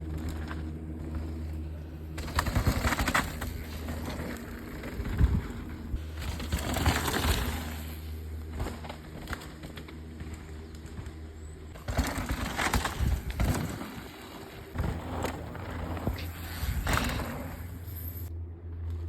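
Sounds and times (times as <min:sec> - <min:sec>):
bike rattling and knocking: 0:00.0 - 0:18.3
bike tyres on dirt: 0:00.0 - 0:18.3
low rumble: 0:00.0 - 0:19.0.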